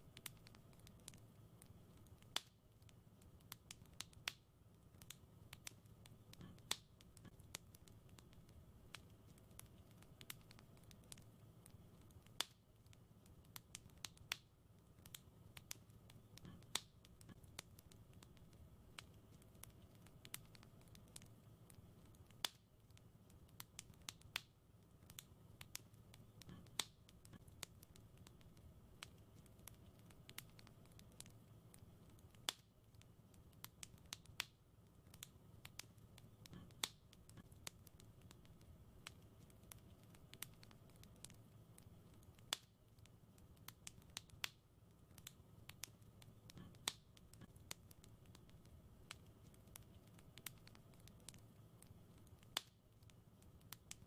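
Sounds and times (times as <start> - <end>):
faint low rumble: 0.0 - 54.0
wood fire crackling: 0.0 - 54.0.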